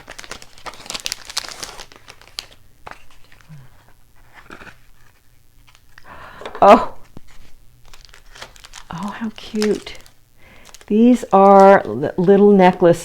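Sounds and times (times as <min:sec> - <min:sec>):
packaging crinkling: 0:00.0 - 0:06.2, 0:07.0 - 0:12.8.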